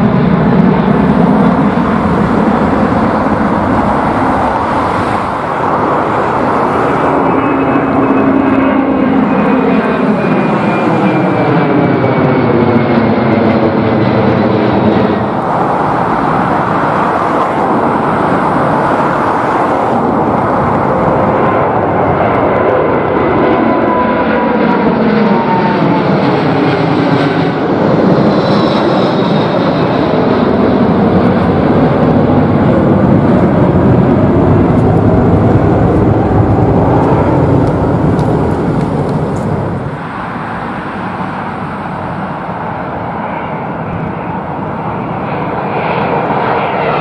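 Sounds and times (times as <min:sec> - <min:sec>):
jet airliner climbing overhead: 0:00.0 - 0:47.0.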